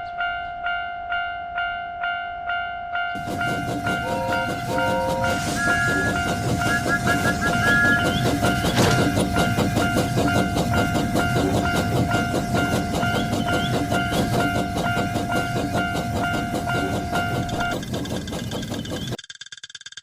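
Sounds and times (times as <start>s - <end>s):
crossing warning bell ringing: 0.0s - 18.4s
train wheels clickety-clack: 3.2s - 19.2s.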